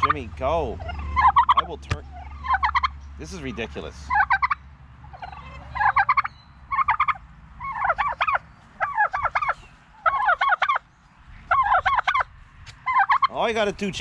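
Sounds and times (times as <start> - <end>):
turkeys gobbling: 0.0 - 13.5.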